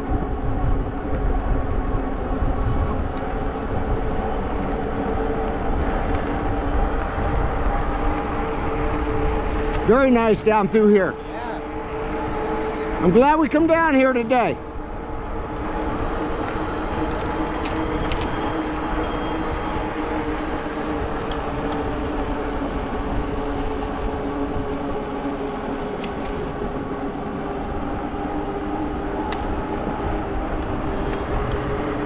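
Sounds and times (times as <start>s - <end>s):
low motor hum: 0.0s - 32.0s
tyres rumbling on a trail: 0.0s - 32.0s.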